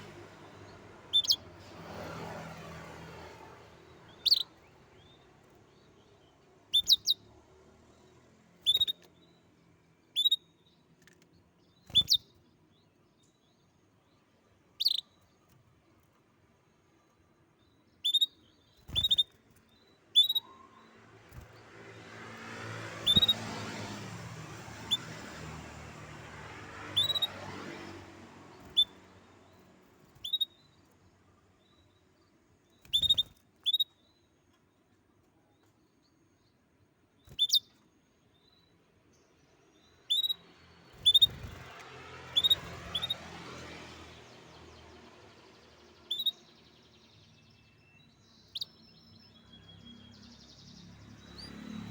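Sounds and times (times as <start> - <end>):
canary chirping: 0.0 - 1.9, 3.2 - 13.7, 14.7 - 15.6, 17.6 - 34.3, 37.2 - 51.9.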